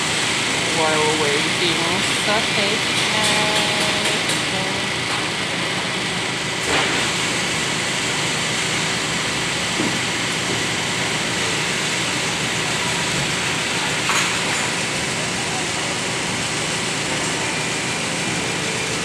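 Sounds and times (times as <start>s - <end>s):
restaurant background hiss: 0.0s - 19.0s.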